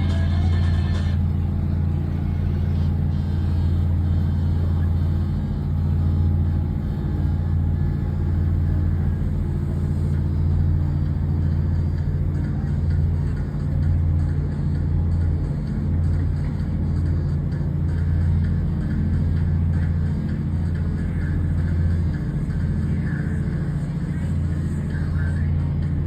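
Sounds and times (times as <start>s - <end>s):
large engine droning: 0.0s - 26.0s.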